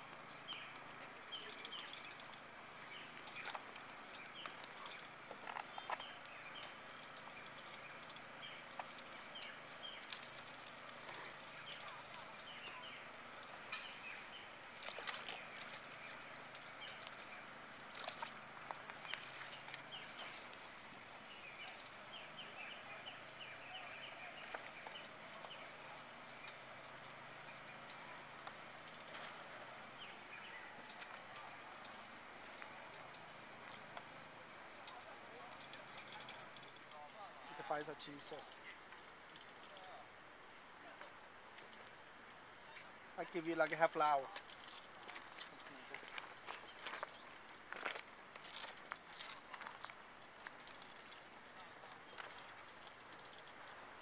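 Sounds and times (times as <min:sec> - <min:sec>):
small birds chirping: 0:00.0 - 0:40.0, 0:40.9 - 0:54.0.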